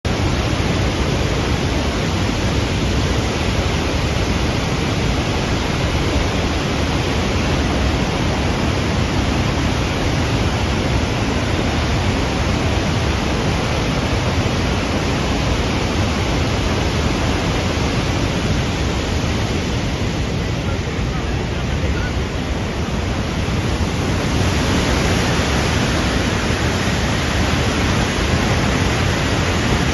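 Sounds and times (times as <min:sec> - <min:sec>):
flood water rushing: 0:00.1 - 0:29.9.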